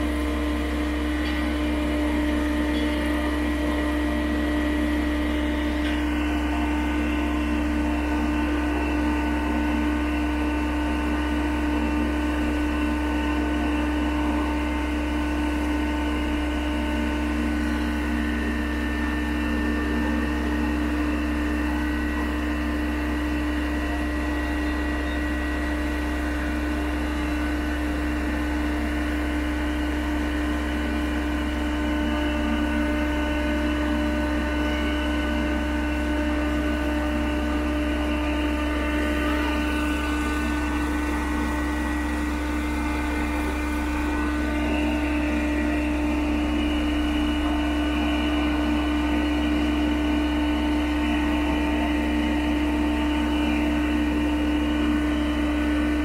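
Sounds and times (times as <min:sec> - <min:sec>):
boom pump mechanical drone: 0:00.0 - 0:56.0.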